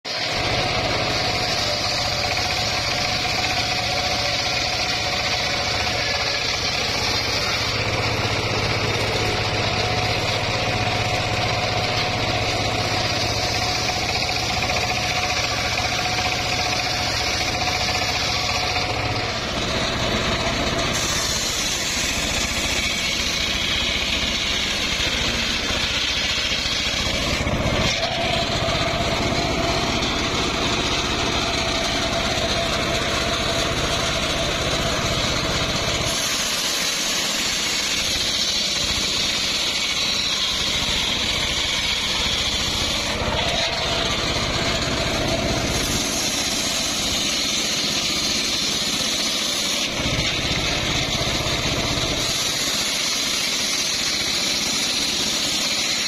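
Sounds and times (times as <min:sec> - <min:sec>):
circular saw ripping log: 0:00.1 - 0:56.0.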